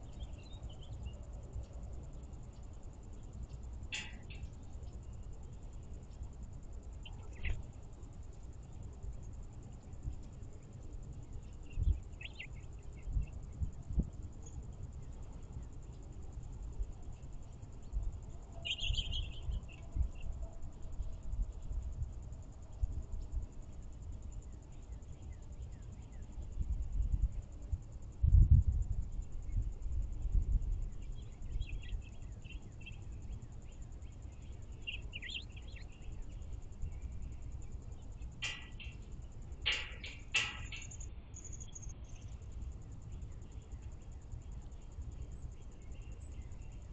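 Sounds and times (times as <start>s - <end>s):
songbird chirps: 0.0s - 28.0s, 29.0s - 46.9s
faint high-pitched pulsing buzz: 0.0s - 46.9s
high-pitched insect trill: 0.0s - 46.9s.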